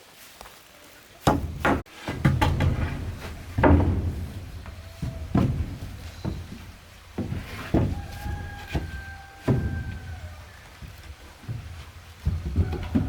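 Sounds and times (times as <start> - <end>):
heavy thuds: 1.3 - 13.0
sharp knocks: 1.3 - 13.0.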